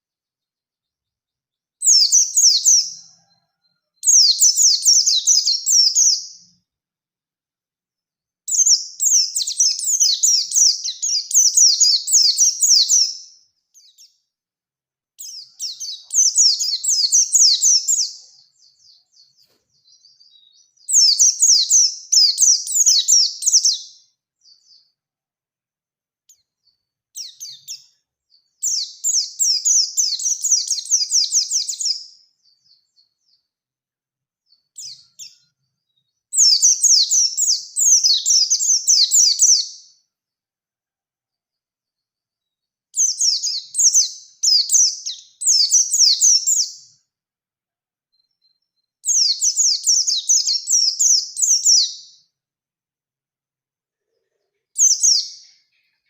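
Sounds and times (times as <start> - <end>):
small bird singing rapid song: 0.0 - 6.7, 8.4 - 14.4, 15.2 - 25.0, 26.3 - 33.6, 34.4 - 40.2, 41.9 - 47.2, 48.1 - 52.4, 54.5 - 56.0.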